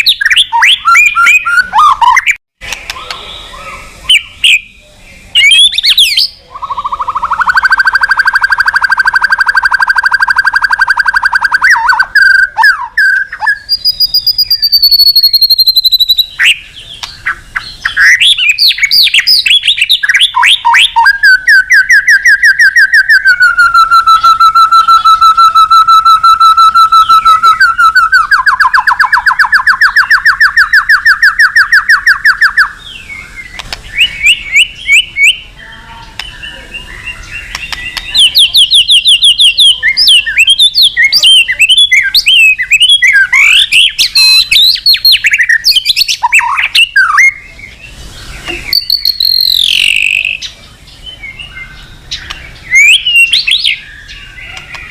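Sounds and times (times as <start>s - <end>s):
bird singing loud song: 0.0s - 54.9s.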